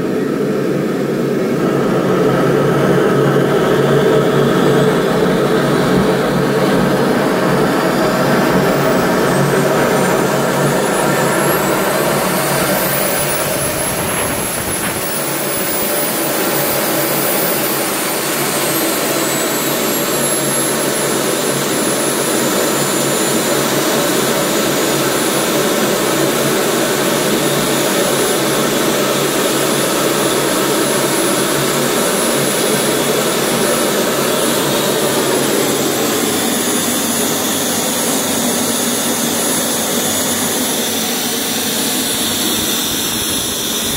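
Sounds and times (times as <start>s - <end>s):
model turbojet engine whining: 0.0s - 43.9s.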